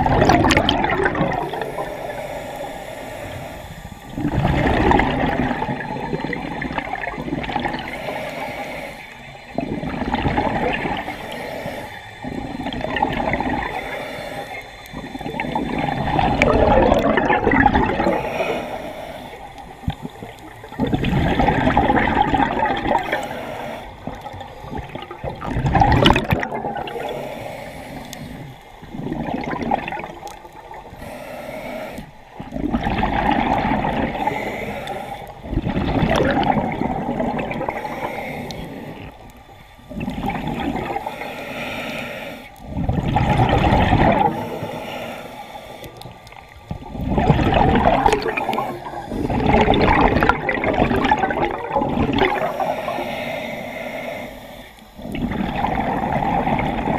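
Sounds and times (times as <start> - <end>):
bubbles rushing and gurgling: 0.0 - 31.1, 31.9 - 41.2, 42.5 - 45.2, 45.8 - 54.2, 55.0 - 56.9
diver's regulator breathing underwater: 0.0 - 56.9.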